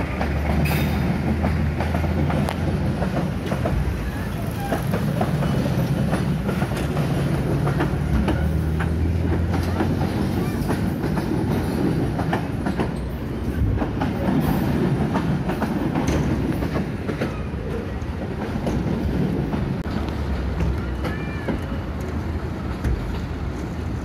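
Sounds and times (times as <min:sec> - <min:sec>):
train wheels clacking: 0:00.0 - 0:23.9.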